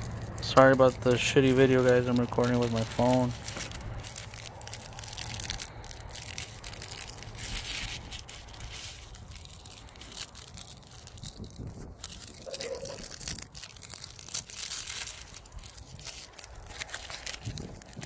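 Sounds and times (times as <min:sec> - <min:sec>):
paper wrapper crinkling and tearing: 0:00.0 - 0:18.0.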